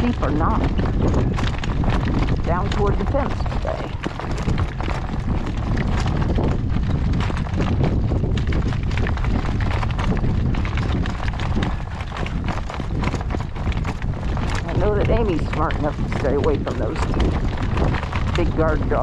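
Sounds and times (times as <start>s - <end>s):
horse hooves clattering: 0.0s - 19.0s
wind buffeting microphone: 0.0s - 19.0s.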